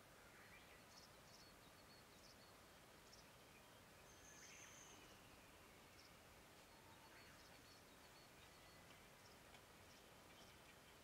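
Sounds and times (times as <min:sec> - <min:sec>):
faint outdoor hiss: 0:00.0 - 0:11.0.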